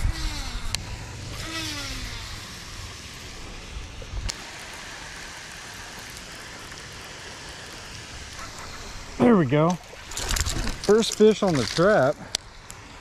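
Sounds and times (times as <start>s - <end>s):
fishing reel spool whirring: 0.0s - 11.9s.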